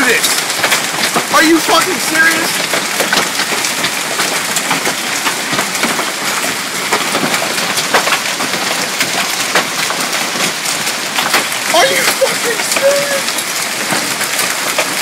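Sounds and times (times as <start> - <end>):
hailstones pelting down: 0.0 - 15.0.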